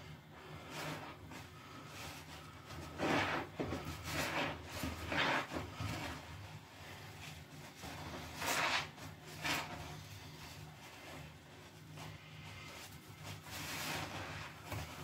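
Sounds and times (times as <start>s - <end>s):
soapy sponge squelching: 0.5s - 15.0s.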